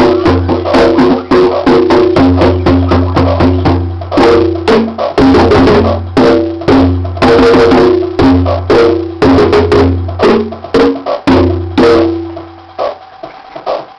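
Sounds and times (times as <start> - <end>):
drum machine beat: 0.0 - 13.9
hand drums playing: 0.0 - 13.9.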